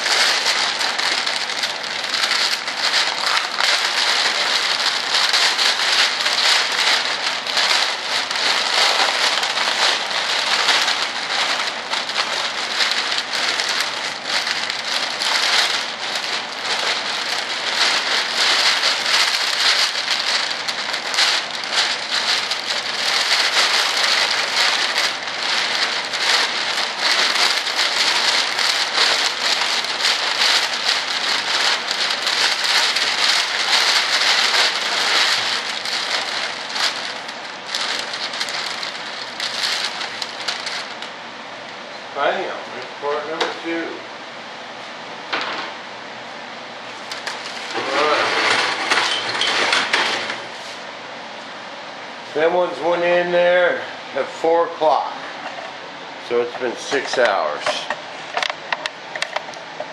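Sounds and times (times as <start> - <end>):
plastic bag crinkling: 0.0 - 42.5, 46.8 - 50.9, 52.3 - 55.6, 56.2 - 59.9.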